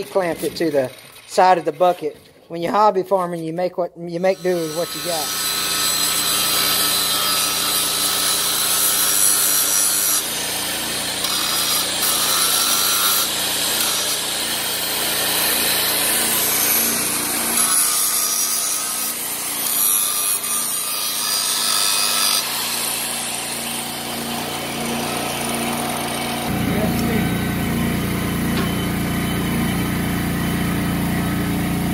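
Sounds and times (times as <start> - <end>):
angle grinder grinding metal: 0.0 - 31.9.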